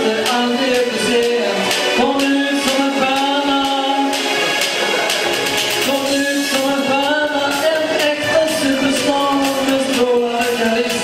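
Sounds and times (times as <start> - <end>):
pop music with singing: 0.0 - 11.0.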